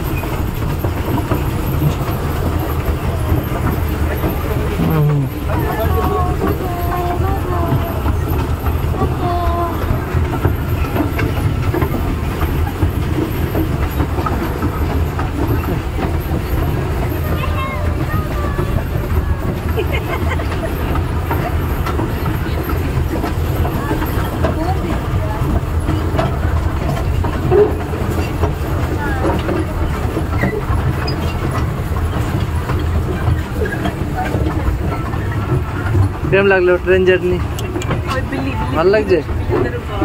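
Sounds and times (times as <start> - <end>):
toy train running: 0.0 - 40.0
train wheels clicking: 0.0 - 40.0.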